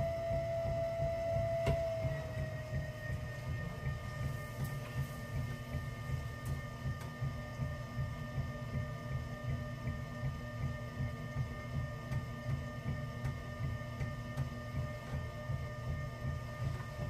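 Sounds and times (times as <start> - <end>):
potter's wheel whining: 0.0 - 17.0.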